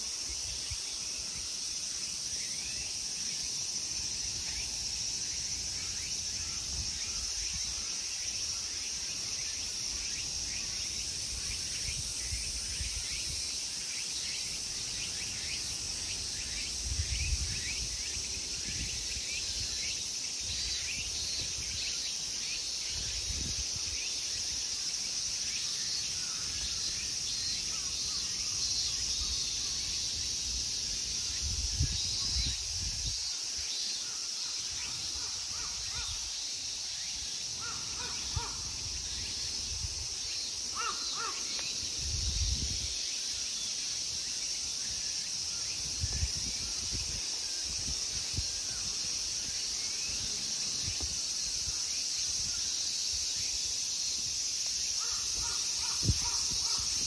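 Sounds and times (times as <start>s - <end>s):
insect chirping calls: 0.0s - 57.0s
insects droning: 0.0s - 57.0s.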